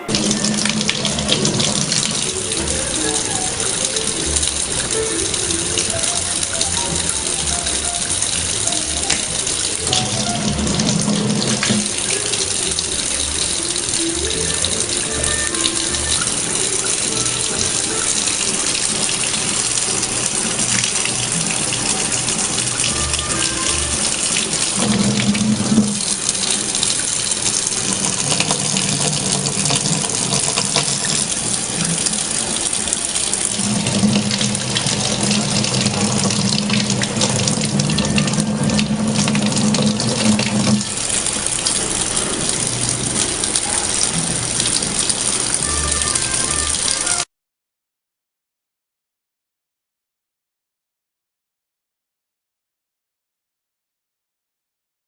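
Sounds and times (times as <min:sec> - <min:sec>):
music playing: 0:00.0 - 0:29.9, 0:30.8 - 0:47.3
running water: 0:00.0 - 0:47.3.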